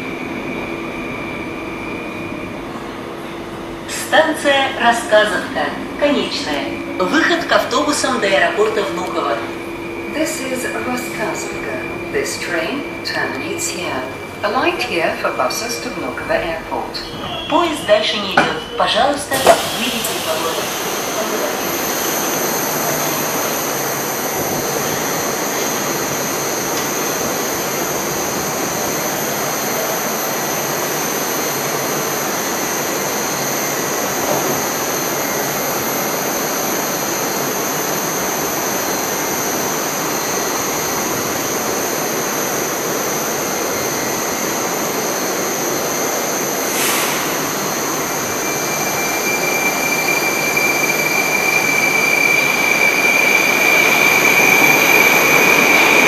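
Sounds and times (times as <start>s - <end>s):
train equipment noise with whine: 0.0s - 56.0s.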